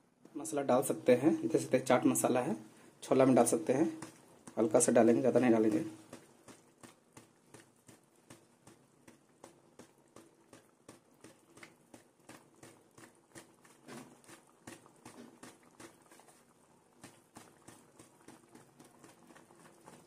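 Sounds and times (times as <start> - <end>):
thick gravy bubbles popping: 3.0 - 20.0.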